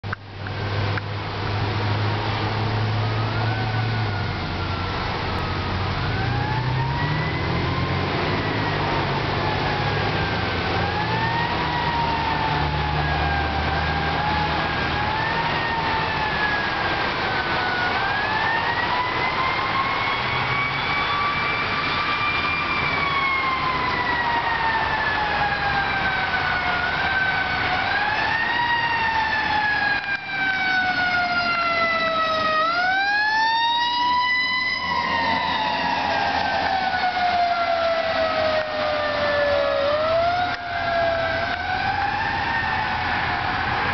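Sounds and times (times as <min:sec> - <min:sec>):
fire engine siren wailing: 0:00.5 - 0:43.9.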